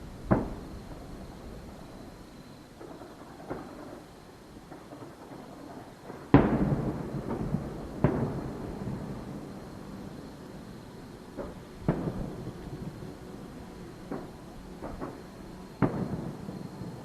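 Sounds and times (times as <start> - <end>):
firework shells booming: 0.2 - 2.0, 2.8 - 10.2, 11.3 - 13.2, 13.9 - 17.0.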